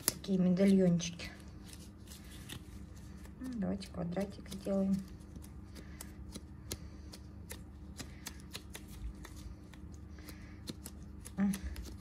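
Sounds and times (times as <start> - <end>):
gloved hands shaping paste: 0.0 - 12.0.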